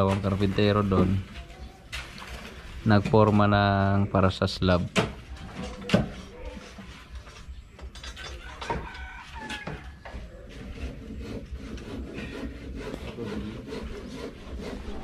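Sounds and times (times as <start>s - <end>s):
scraping and rubbing: 0.0s - 3.4s, 5.1s - 15.0s.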